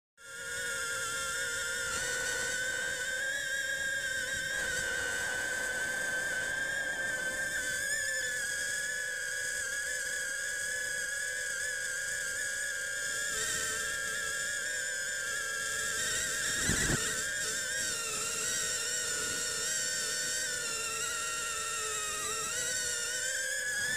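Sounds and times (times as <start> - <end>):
drone motors whining: 0.2 - 23.9.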